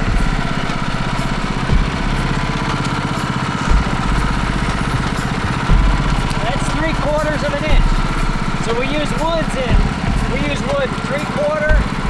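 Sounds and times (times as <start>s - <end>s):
low thumps: 0.0s - 11.0s, 11.7s - 12.0s
sawmill engine running: 0.0s - 12.0s.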